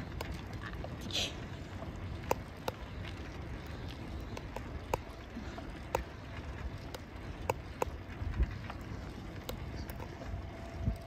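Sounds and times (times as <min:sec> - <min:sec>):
tyres on pavement: 0:00.0 - 0:11.0
wind rumble: 0:00.0 - 0:11.0.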